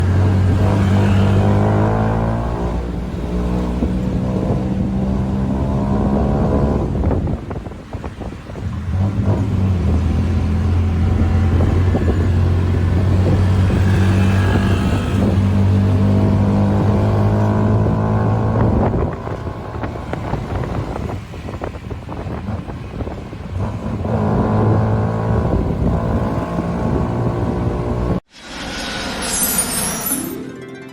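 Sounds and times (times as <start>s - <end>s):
tuk tuk engine running: 0.0s - 28.2s.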